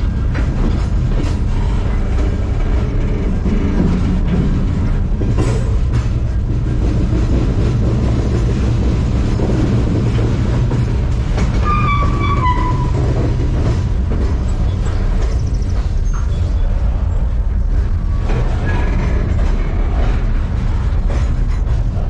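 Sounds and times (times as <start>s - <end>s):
freight train rumbling: 0.0s - 22.0s.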